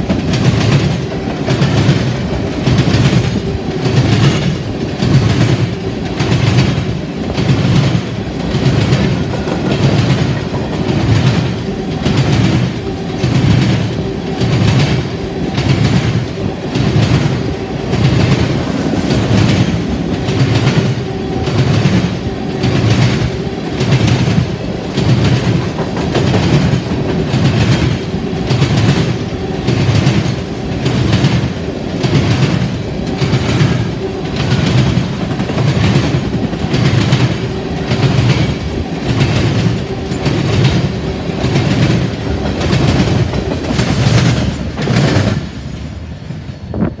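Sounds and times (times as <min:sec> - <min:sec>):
train wheels clacking over rails: 0:00.0 - 0:47.0.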